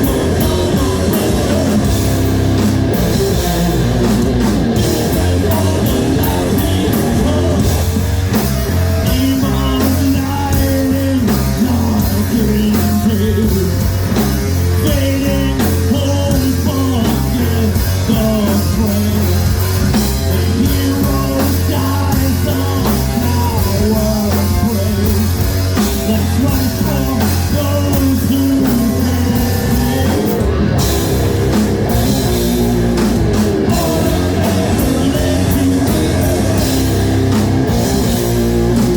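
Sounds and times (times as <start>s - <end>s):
drum kit beat: 0.0s - 38.9s
electric guitar: 0.0s - 38.9s
rock band playing live: 0.0s - 38.9s.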